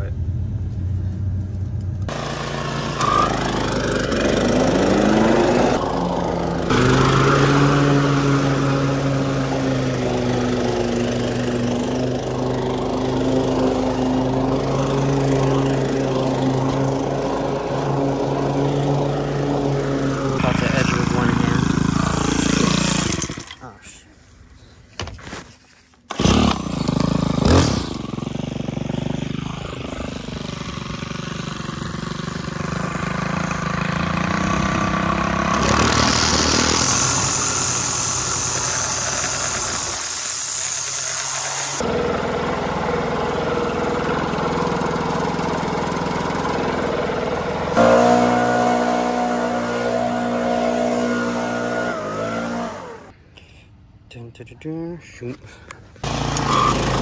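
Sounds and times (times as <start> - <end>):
string trimmer running: 2.0 - 23.8, 26.1 - 53.2, 56.0 - 57.0
leaf blower: 2.1 - 24.3, 26.1 - 53.2, 56.0 - 57.0.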